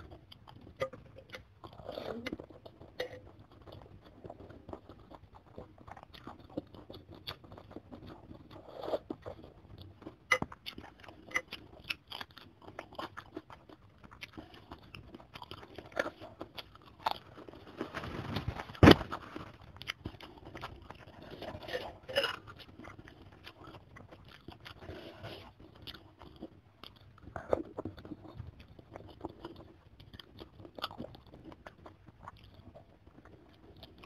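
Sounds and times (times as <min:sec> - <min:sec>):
person chewing and slurping: 0:00.0 - 0:34.0.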